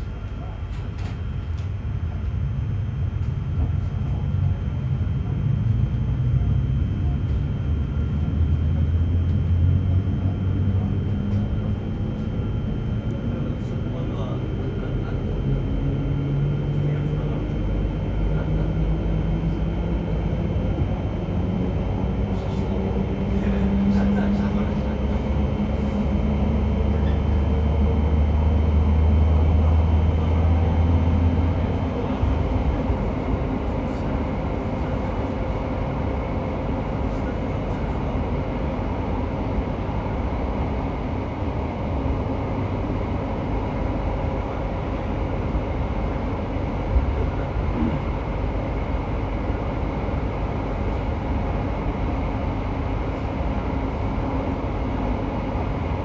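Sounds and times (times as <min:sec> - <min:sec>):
loud low motor drone: 0:00.0 - 0:56.0.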